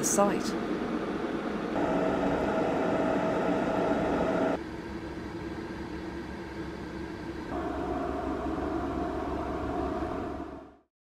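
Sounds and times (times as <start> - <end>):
faint high whine: 0.0 - 10.9
machine hum and hiss: 0.0 - 10.9.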